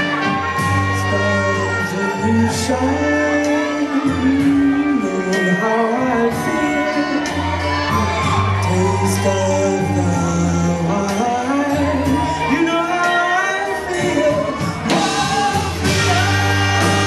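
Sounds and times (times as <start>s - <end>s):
live band music: 0.0s - 17.0s
person singing: 0.0s - 17.0s
steady bass: 0.0s - 17.0s.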